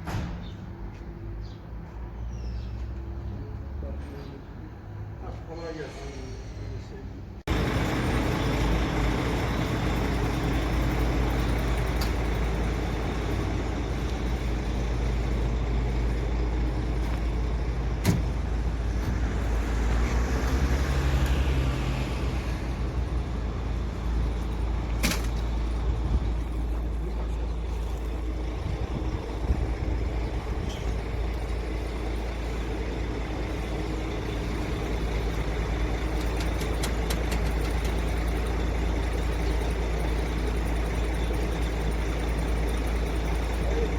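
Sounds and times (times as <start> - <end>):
heavy vehicle engine running: 5.7 - 43.9.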